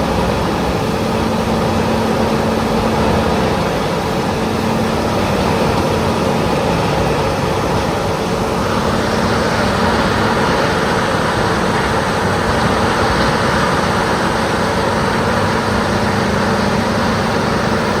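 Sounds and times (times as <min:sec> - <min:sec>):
wood grinder roaring: 0:00.0 - 0:18.0.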